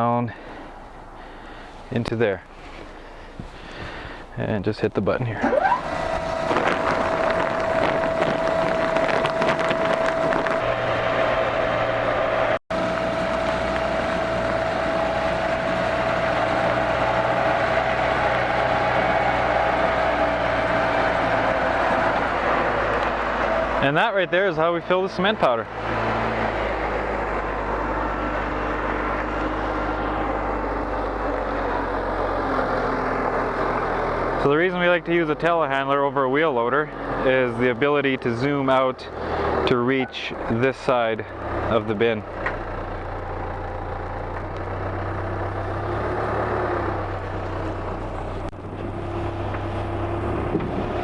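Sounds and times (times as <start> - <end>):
heavy engine running: 0.0 - 51.0
hydraulic whine: 5.4 - 51.0.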